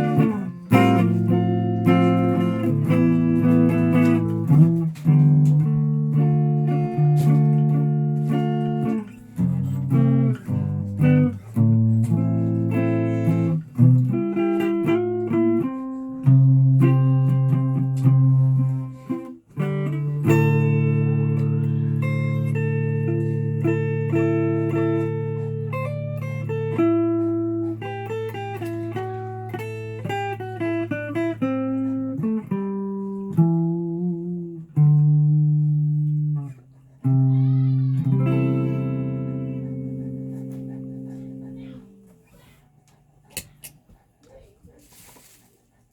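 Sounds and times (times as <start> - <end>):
solo guitar playing: 0.0 - 42.3.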